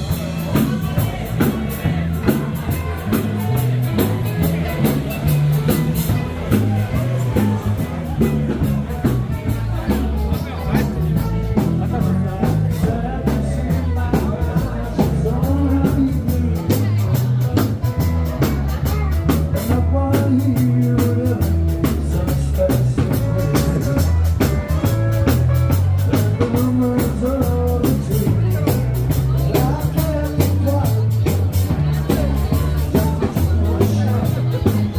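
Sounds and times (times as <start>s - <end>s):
rock background music: 0.0s - 34.9s.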